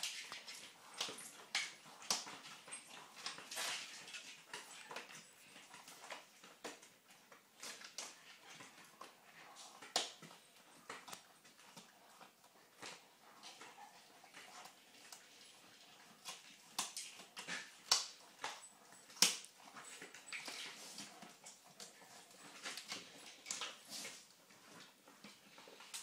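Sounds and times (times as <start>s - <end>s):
dogs crunching chews: 0.0s - 26.0s.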